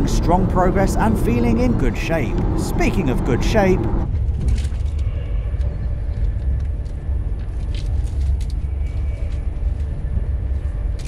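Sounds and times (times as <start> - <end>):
train carriage rumble: 0.0 - 11.0.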